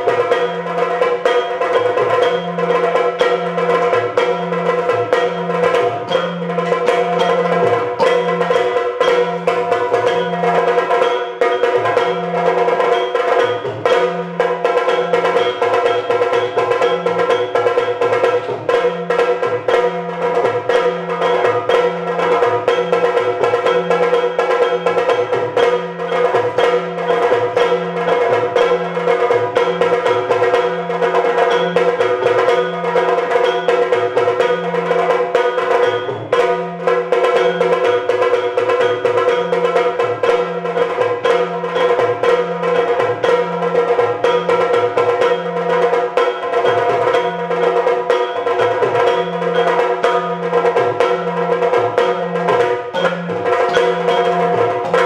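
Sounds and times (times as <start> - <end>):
low pitched drum beats: 0.0 - 55.0
sharp drum strokes: 0.0 - 55.0.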